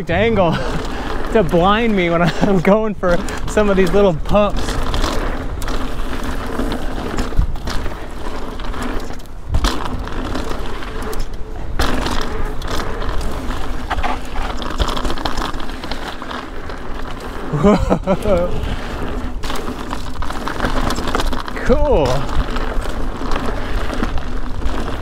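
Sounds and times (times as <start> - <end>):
bike knocking and rattling: 0.0 - 25.0
bike tyres rolling on dirt: 0.0 - 25.0.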